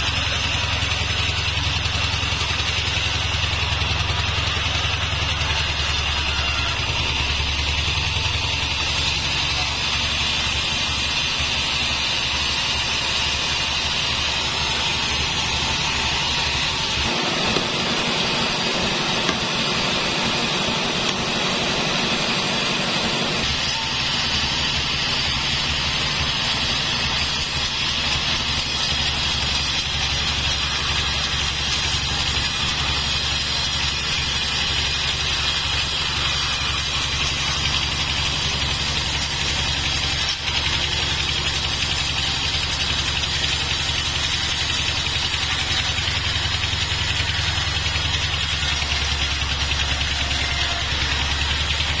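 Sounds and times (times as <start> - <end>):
saw blade hissing through wood: 0.0 - 52.0
sawmill motor hum: 0.0 - 52.0.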